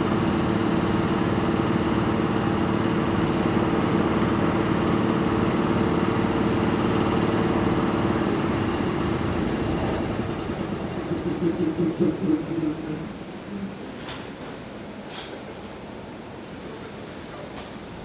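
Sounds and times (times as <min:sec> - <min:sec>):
locomotive cooling blowers whirring: 0:00.0 - 0:18.0.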